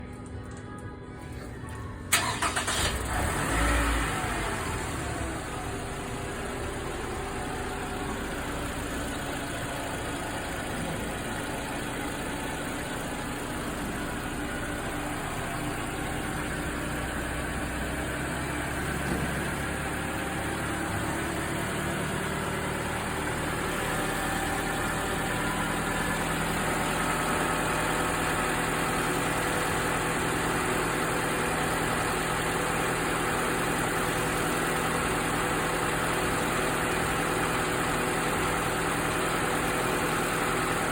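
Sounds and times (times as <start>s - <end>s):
car engine idling: 2.1s - 40.9s.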